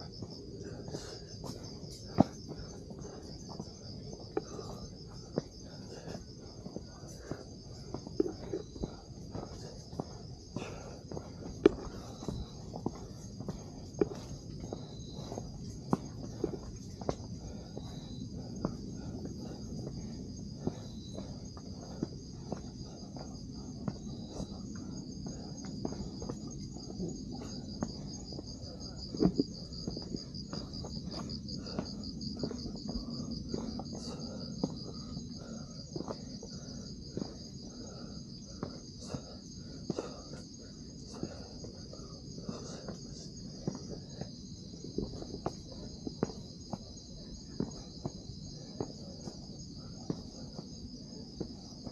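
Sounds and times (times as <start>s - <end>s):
footsteps on trail: 0.0s - 51.9s
night insects chorus: 0.0s - 51.9s.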